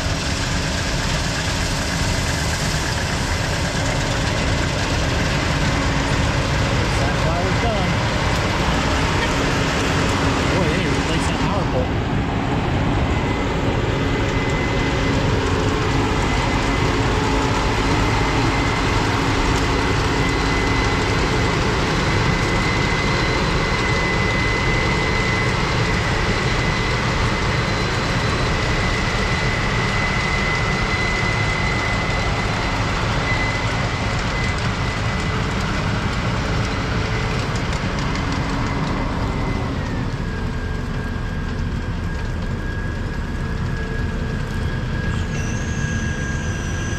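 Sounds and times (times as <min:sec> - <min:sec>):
combine harvester running: 0:00.0 - 0:46.9
high machine whine: 0:00.0 - 0:46.9.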